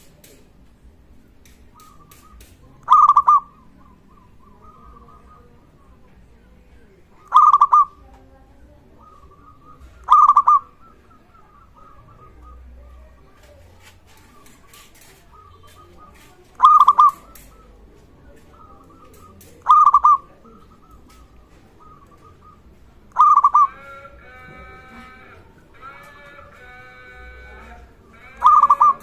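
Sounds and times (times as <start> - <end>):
dove calling coos: 1.4 - 29.0
soft continuous cooing: 1.7 - 29.0.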